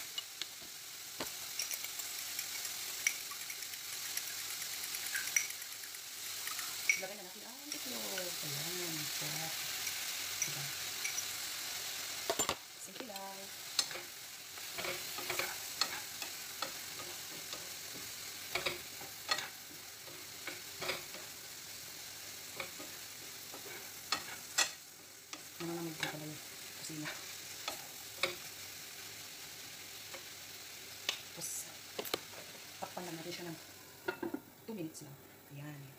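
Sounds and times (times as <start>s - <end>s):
vegetables sizzling in a frying pan: 0.0s - 35.9s.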